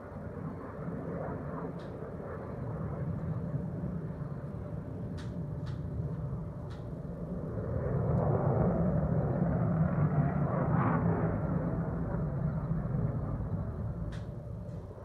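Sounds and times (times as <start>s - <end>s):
jet rumble: 0.0s - 15.0s.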